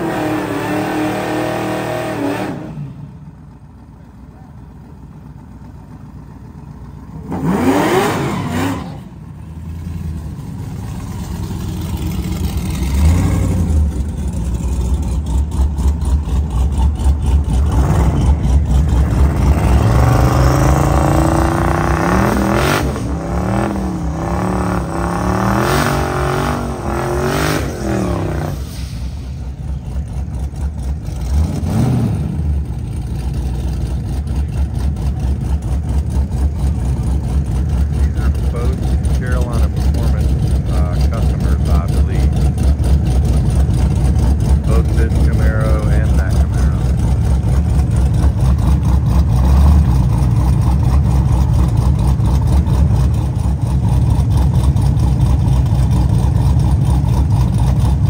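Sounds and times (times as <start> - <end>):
drag race engines revving: 0.0 - 58.0.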